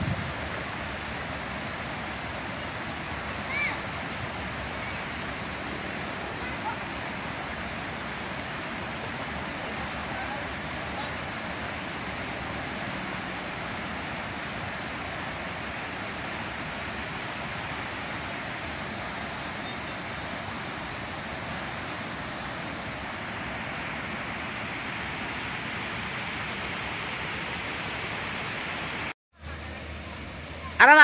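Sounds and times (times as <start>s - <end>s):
rushing flowing water: 0.0s - 31.0s.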